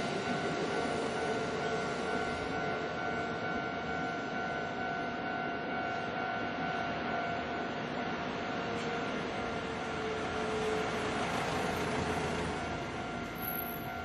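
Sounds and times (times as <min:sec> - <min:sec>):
crossing warning tones: 0:00.0 - 0:14.0
train wheels rumbling on rail: 0:00.0 - 0:14.0.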